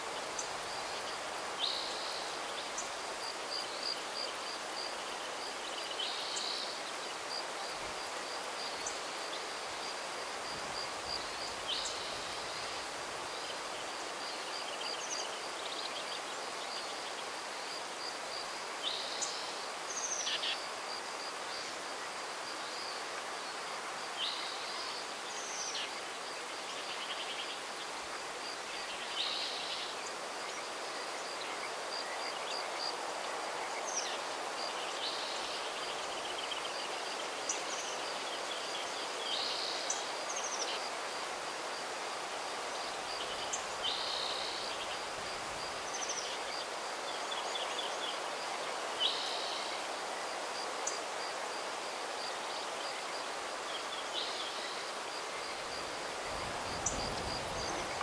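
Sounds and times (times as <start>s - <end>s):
breeze through trees: 0.0s - 58.0s.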